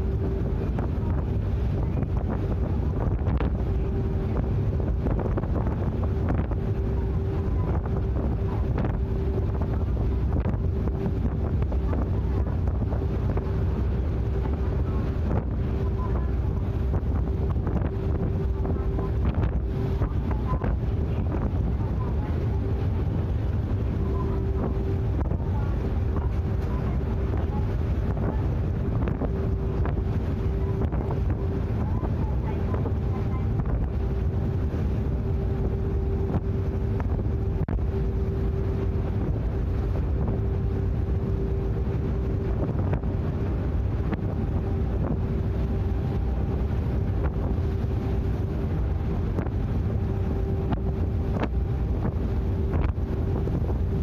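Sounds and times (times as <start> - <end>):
constant hum tone: 0.0 - 54.0
ship engines droning: 0.0 - 54.0
wind buffeting microphone: 0.0 - 54.0.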